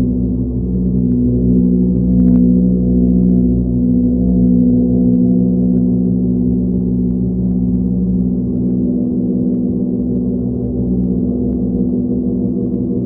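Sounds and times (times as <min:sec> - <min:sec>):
deep resonant drone: 0:00.0 - 0:13.0.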